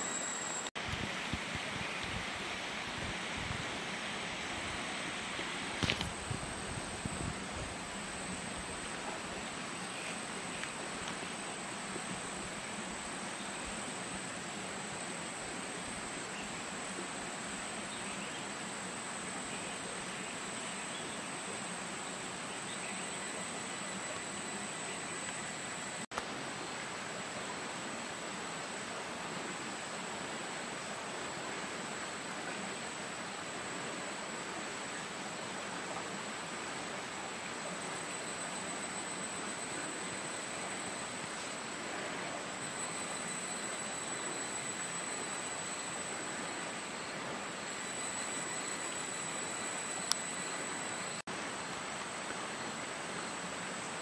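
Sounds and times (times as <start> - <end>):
constant high-pitched whine: 0.0 - 54.0
even hiss: 0.0 - 54.0.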